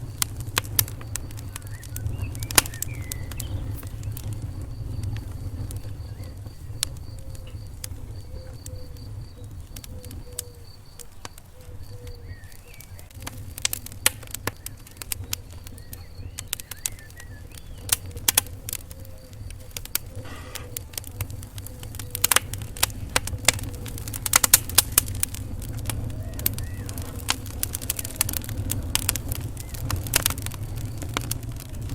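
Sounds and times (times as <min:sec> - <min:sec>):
low rumble of flames: 0:00.0 - 0:31.9
sharp pops and snaps of fire: 0:00.0 - 0:31.9
wood fire crackling: 0:00.0 - 0:31.9.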